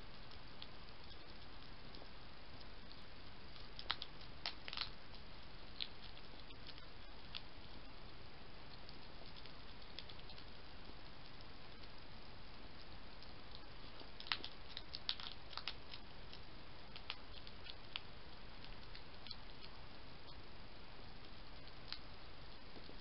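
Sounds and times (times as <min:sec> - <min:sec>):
steady hiss: 0:00.0 - 0:23.0
hedgehog crunching pellets: 0:00.1 - 0:20.4.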